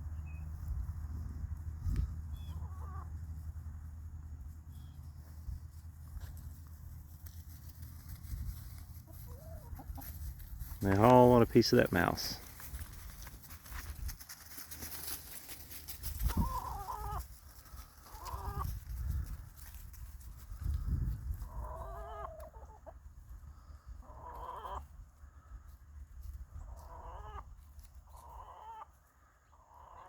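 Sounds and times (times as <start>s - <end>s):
hens clucking and squawking: 1.9s - 19.9s, 20.5s - 30.0s.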